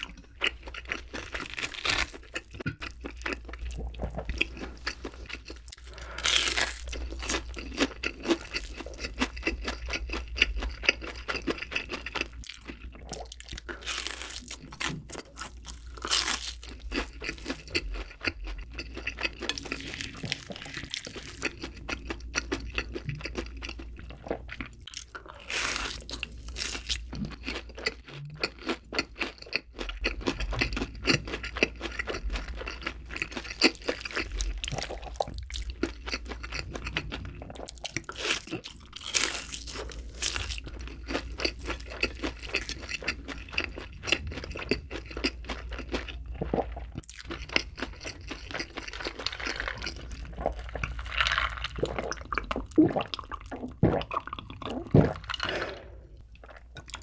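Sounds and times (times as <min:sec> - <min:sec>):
crunchy chewing of fried food: 0:00.0 - 0:57.0.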